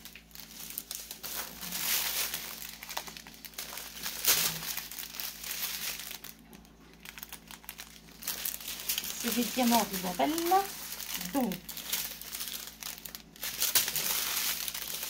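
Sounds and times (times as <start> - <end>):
thin plastic crinkling: 0.0 - 15.0.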